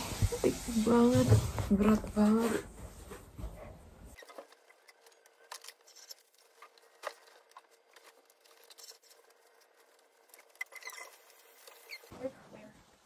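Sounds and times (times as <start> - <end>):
clothing rustling: 0.0 - 13.0.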